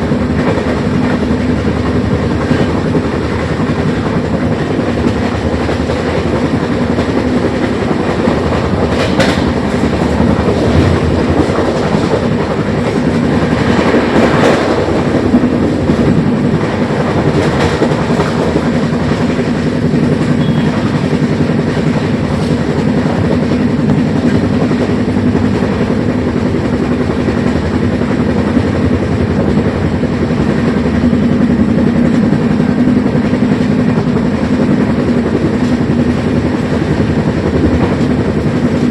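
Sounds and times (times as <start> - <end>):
train rumbling along track: 0.0 - 38.9
train wheels clattering: 0.0 - 38.9.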